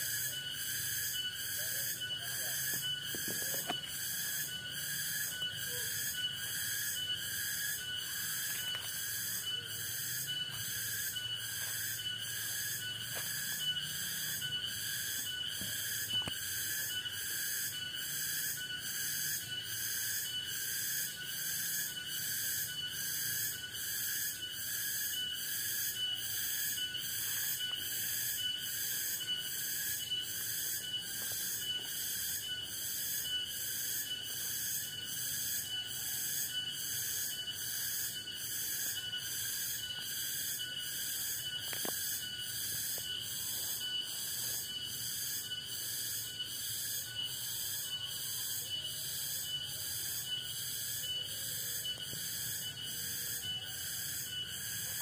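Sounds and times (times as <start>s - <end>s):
insect shrill pulsing trill: 0.0s - 55.0s
insects buzzing steadily: 0.0s - 55.0s.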